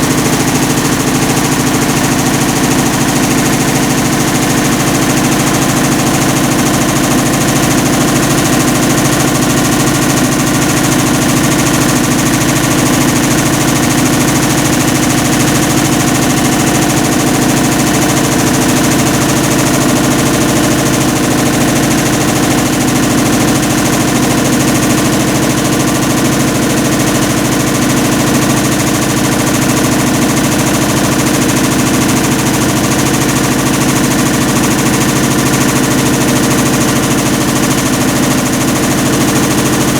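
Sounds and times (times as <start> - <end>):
washing machine grinding rattle: 0.0 - 39.9.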